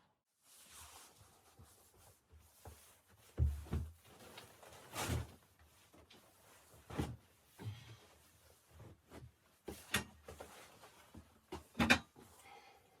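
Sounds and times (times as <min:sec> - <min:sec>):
faint handling and rustling: 0:00.4 - 0:12.8.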